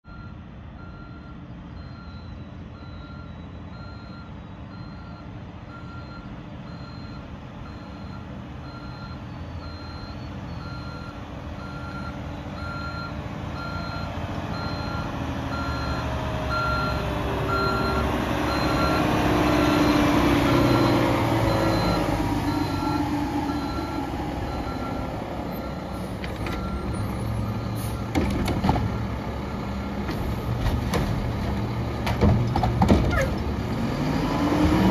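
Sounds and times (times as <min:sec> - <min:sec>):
diesel engine: 0:00.0 - 0:34.9.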